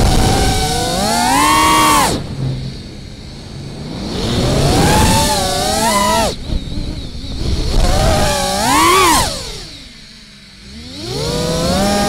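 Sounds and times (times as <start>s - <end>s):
air rush: 0.0s - 10.6s
drone motor whine: 0.0s - 12.0s.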